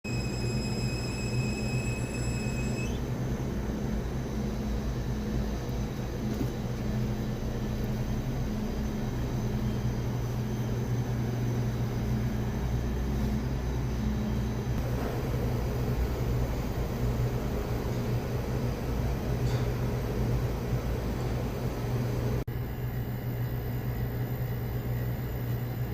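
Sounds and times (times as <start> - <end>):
faint high whine: 0.0 - 19.7, 22.0 - 25.9
low mechanical hum and rumble: 0.1 - 25.9.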